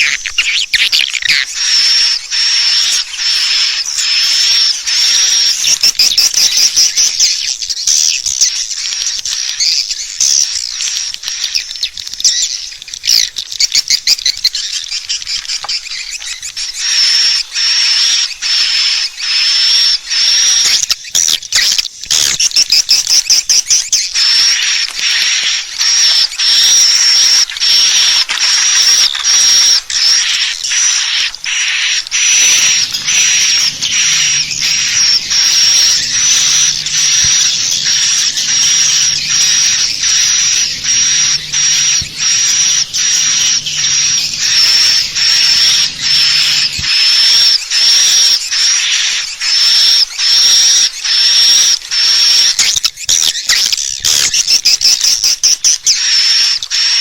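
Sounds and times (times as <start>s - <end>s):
high-pitched bird twittering chirps: 0.0s - 57.0s.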